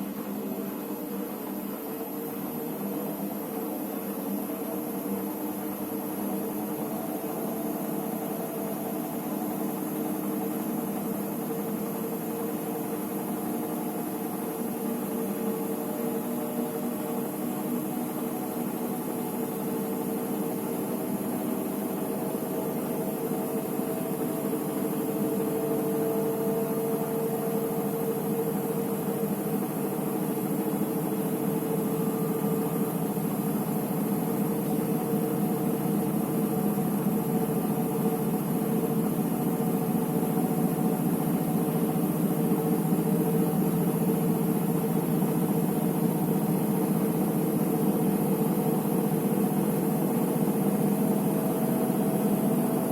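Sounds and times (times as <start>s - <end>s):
washing machine hum: 0.0s - 52.9s.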